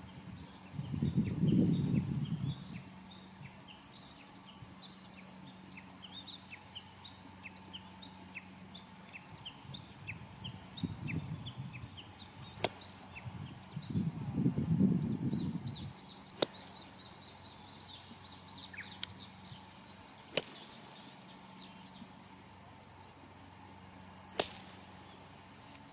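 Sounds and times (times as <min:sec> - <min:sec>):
bird chirping: 0:00.0 - 0:14.2, 0:14.9 - 0:23.1.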